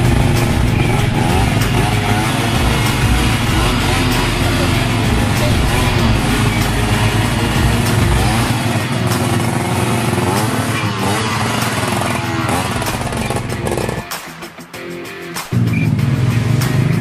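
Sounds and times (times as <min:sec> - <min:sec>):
motorcycle engine revving hard: 0:00.0 - 0:14.2.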